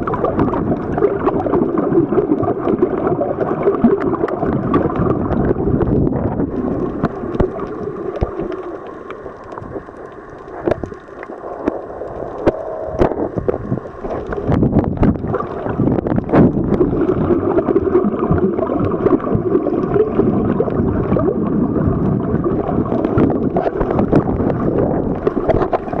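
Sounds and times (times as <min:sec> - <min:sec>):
underwater gurgling rush: 0:00.0 - 0:26.0
underwater clicks and knocks: 0:02.2 - 0:21.3, 0:22.0 - 0:26.0.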